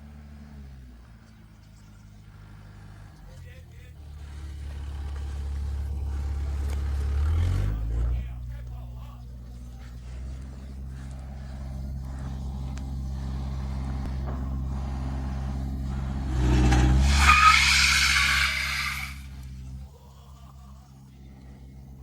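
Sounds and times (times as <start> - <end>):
heavy vehicle engine straining: 0.0 - 22.0
tyres squealing: 0.0 - 22.0.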